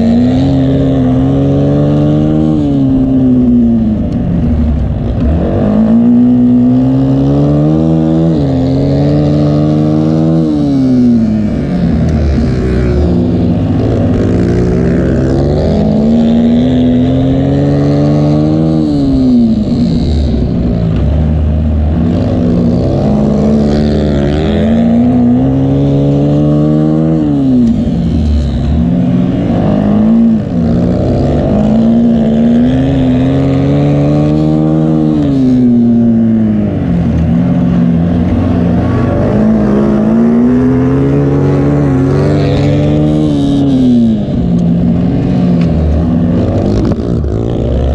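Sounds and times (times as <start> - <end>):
racing engine revving: 0.0 - 47.9.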